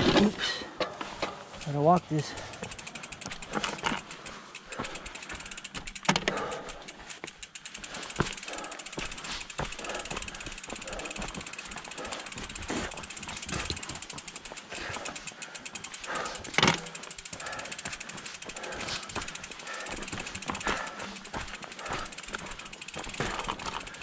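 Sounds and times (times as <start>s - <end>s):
bike clicking and rattling: 0.0s - 24.0s.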